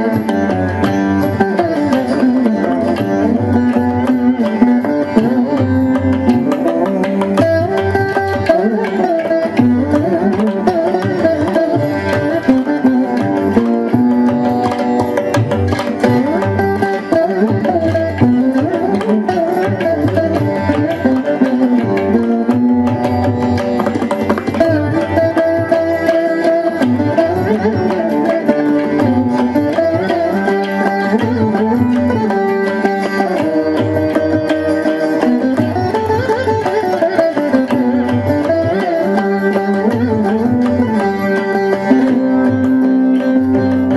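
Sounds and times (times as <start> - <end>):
drum accompaniment: 0.0 - 43.9
veena melody: 0.0 - 43.9.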